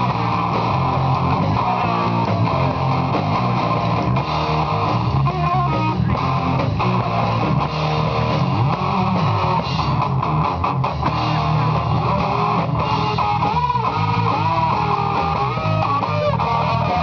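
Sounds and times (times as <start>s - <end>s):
lead guitar with bent notes: 0.0s - 17.0s
rock band playing live: 0.0s - 17.0s.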